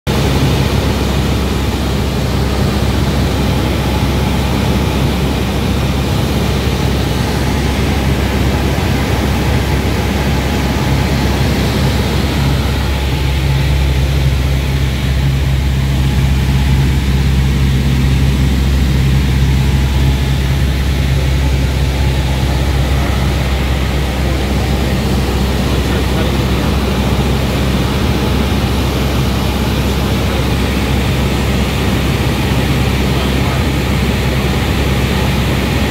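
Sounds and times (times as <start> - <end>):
aircraft engine hum: 0.1 - 35.9.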